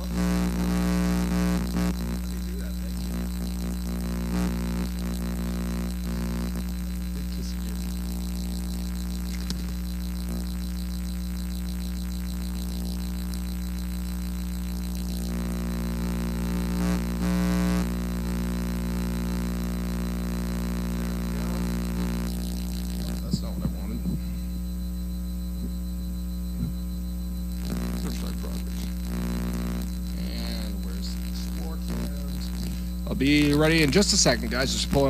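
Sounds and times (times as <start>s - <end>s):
buzzy electrical mains hum: 0.0s - 35.0s.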